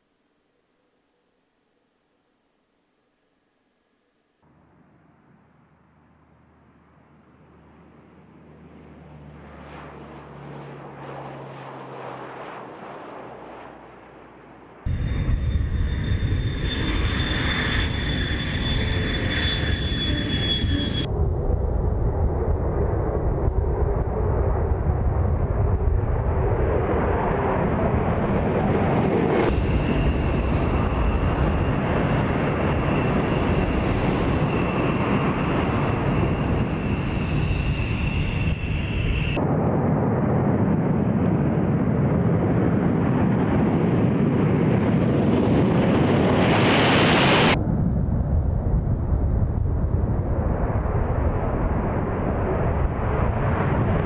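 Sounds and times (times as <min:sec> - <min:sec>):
jet engines roaring: 0:06.8 - 0:54.0
high turbine whine: 0:09.4 - 0:54.0.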